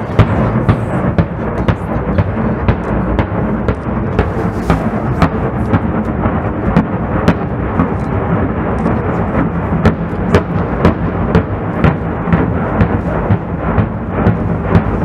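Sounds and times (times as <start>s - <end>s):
distant dynamite blasts: 0.0s - 15.0s.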